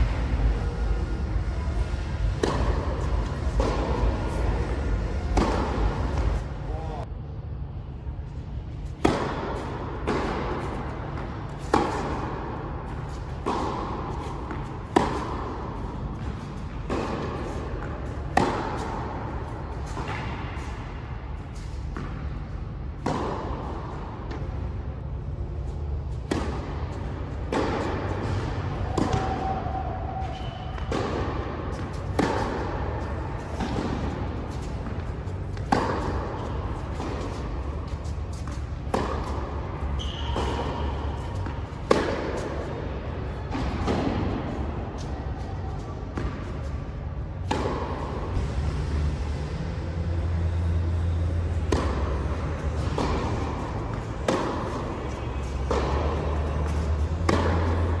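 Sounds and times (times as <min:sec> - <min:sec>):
steady low hum: 0:00.0 - 0:58.0
racket striking tennis ball: 0:02.2 - 0:06.6, 0:08.8 - 0:24.7, 0:25.6 - 0:48.6, 0:50.2 - 0:58.0
tennis ball bouncing: 0:02.2 - 0:06.6, 0:08.8 - 0:48.5, 0:50.3 - 0:58.0.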